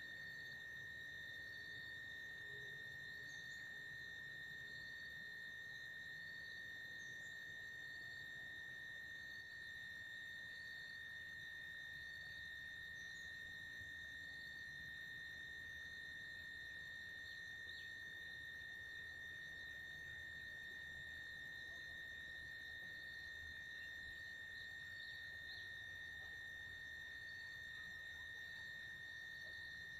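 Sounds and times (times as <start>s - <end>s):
faint insect chirps: 0.0s - 29.9s
high-pitched insect chorus: 0.0s - 29.9s.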